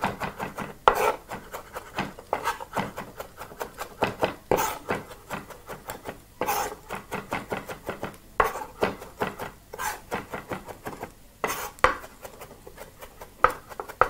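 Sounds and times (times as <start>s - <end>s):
knife chopping on wooden board: 0.0s - 14.0s.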